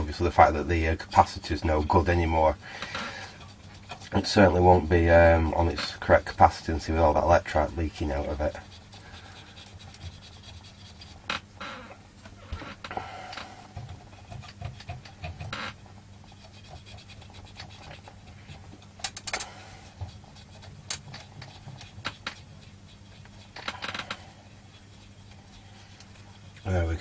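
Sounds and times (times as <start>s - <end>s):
cotton bud scrubbing circuit board: 0.0s - 11.4s, 13.7s - 19.2s, 19.8s - 27.0s
faint steady hum: 0.0s - 27.0s.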